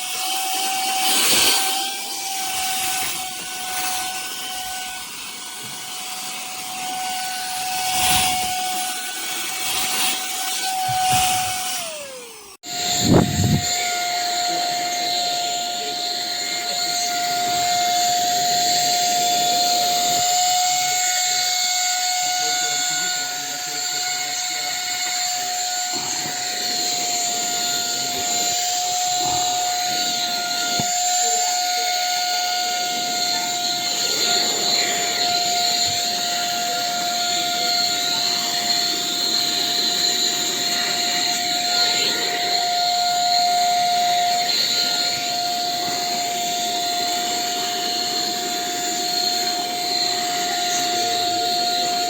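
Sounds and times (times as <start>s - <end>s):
handheld vacuum motor whining: 0.0s - 52.0s.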